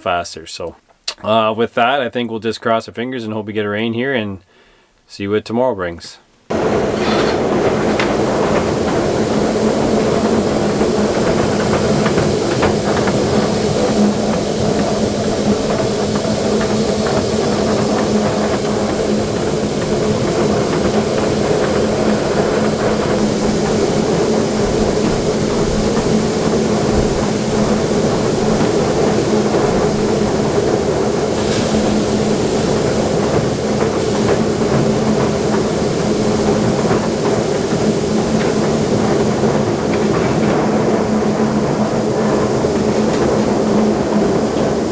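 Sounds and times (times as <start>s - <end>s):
harvester engine humming: 6.5s - 44.9s.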